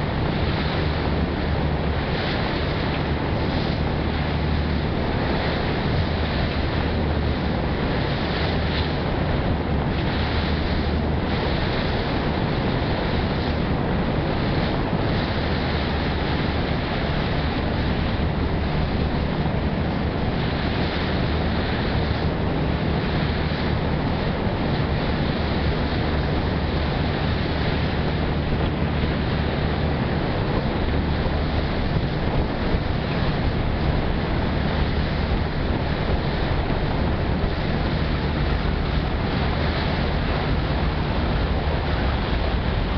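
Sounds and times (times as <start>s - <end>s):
ferry engine drone: 0.0s - 42.9s
rushing water wash: 0.0s - 42.9s
wind on microphone: 0.0s - 42.9s.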